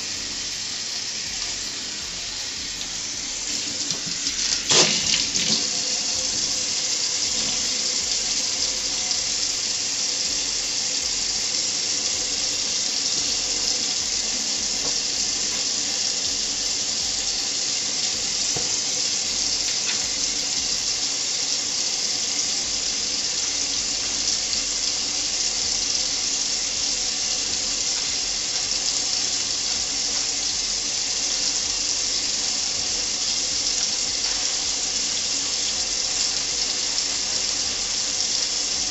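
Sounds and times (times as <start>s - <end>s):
faucet running into steel sink: 0.0s - 38.9s.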